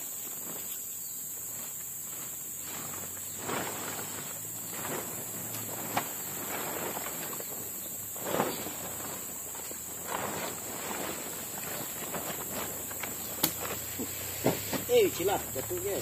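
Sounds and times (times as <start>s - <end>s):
insects droning: 0.0s - 16.0s
rustling: 0.0s - 16.0s
footsteps: 1.4s - 16.0s.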